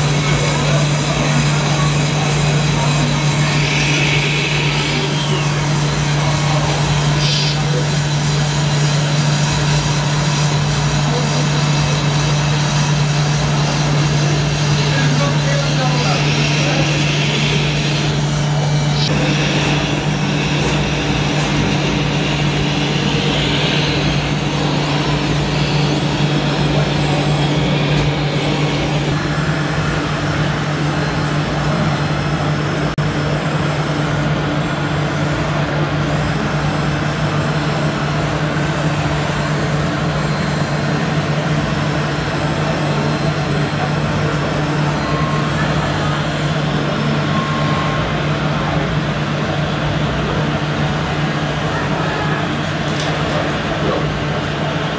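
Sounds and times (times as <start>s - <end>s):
high-pitched whir: 0.0s - 32.5s, 37.2s - 54.6s
low engine-like hum: 0.0s - 54.9s.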